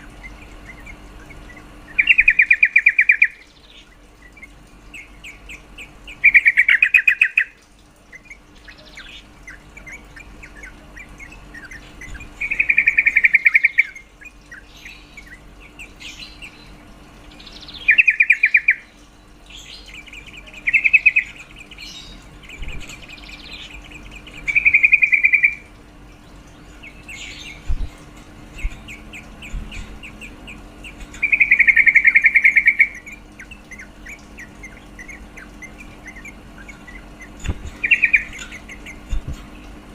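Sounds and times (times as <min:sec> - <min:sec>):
soft bird chirps: 0:00.0 - 0:39.8.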